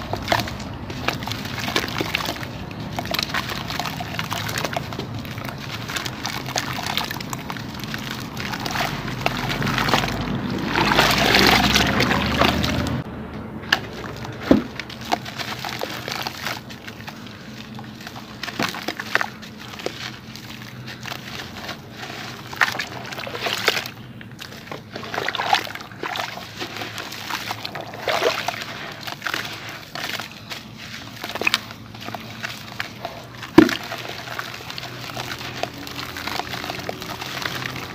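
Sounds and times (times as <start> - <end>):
gritty crunching of wet cement: 0.0 - 37.9
water sloshing and trickling: 0.0 - 37.9.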